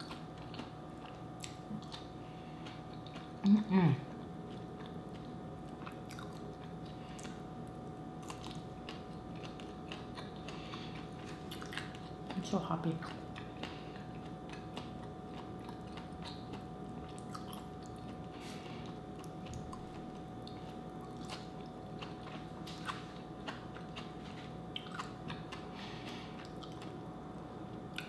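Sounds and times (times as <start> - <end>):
chewing with mouth clicks: 0.0 - 28.0
faint steady hum: 0.0 - 28.0.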